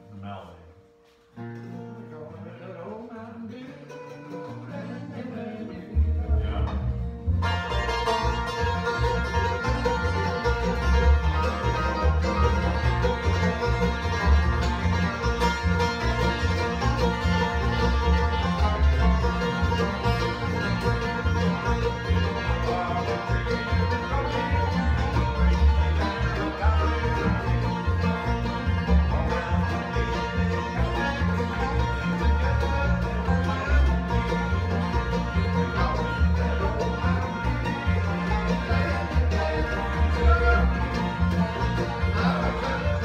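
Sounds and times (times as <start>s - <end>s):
acoustic guitar: 0.0s - 43.0s
banjo picking: 0.0s - 43.0s
mandolin: 0.0s - 43.0s
upright bass plucking: 1.4s - 43.0s.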